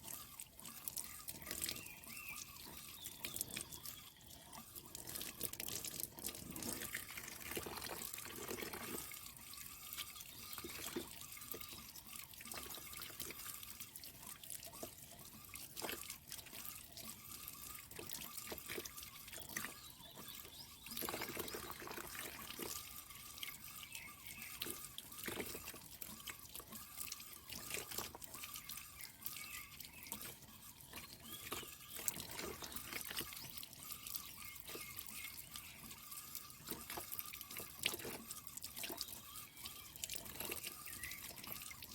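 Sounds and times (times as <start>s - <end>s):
small water splashes: 0.0s - 41.9s
water dripping and trickling: 0.0s - 41.9s.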